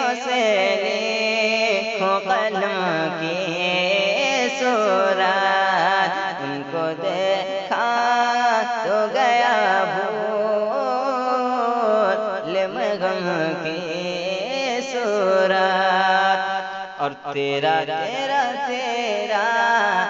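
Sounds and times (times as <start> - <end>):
man singing: 0.0 - 20.0.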